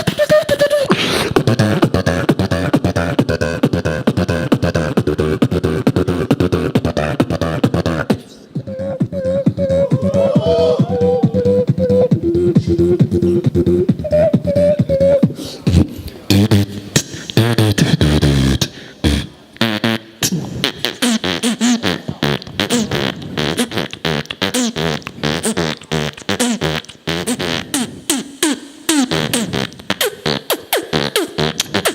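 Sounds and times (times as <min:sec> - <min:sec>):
person beatboxing: 0:00.0 - 0:31.9.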